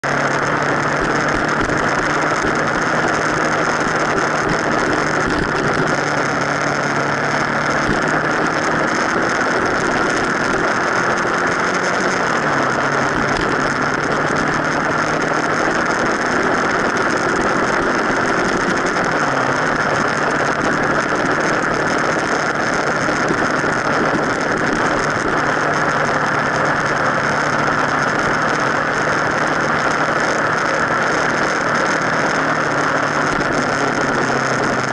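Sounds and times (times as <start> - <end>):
motorcycle engine hum: 0.0 - 34.9
wind and tyre noise: 0.0 - 34.9.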